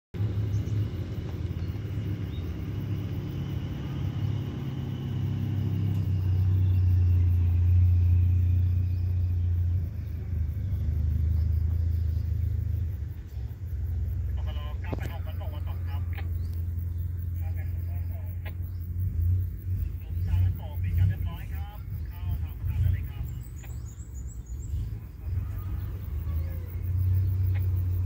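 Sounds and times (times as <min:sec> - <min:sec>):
low engine rumble: 0:00.1 - 0:28.0.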